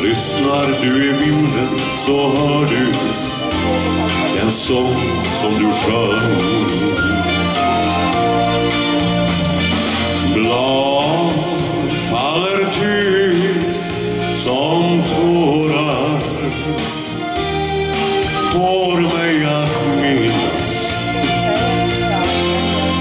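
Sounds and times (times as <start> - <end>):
held bass and keyboard notes: 0.0 - 23.0.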